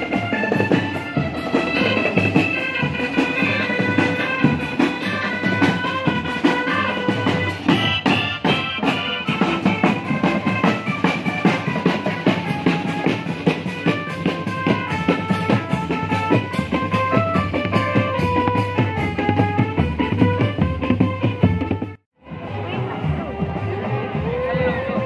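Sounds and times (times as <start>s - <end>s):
rapid drum strokes: 0.0s - 24.3s.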